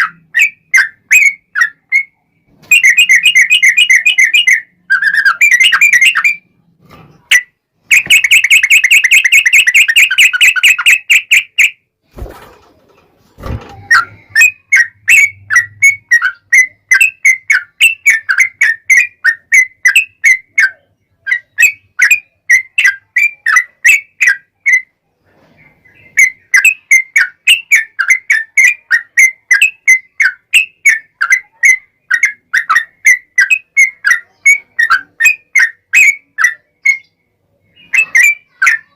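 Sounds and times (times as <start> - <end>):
bird trilling: 0.0 - 6.5, 7.2 - 11.8, 13.7 - 24.9, 25.8 - 38.9
bird chirping: 0.0 - 11.9, 13.7 - 38.9.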